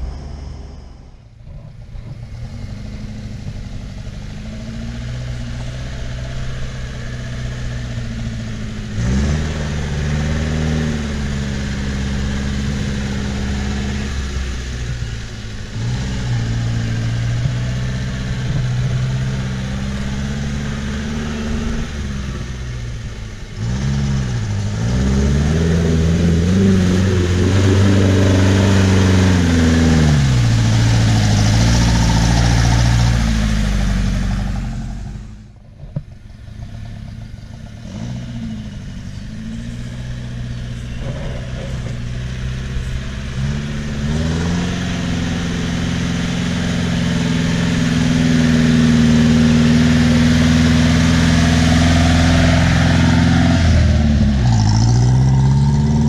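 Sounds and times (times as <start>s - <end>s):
vehicle engine pulling hard: 0.0s - 56.0s.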